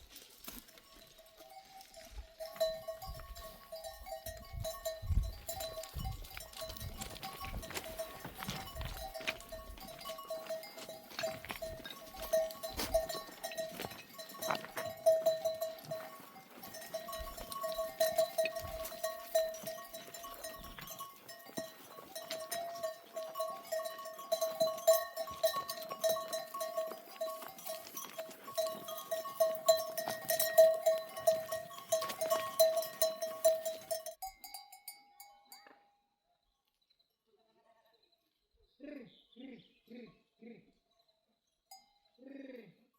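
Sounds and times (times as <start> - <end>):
sheep bells clanking: 0.0 - 36.0.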